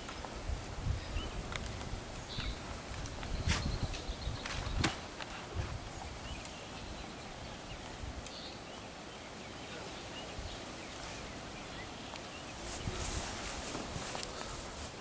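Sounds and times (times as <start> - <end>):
rustling of branches being handled: 0.0 - 15.0
steady background hiss: 0.0 - 15.0.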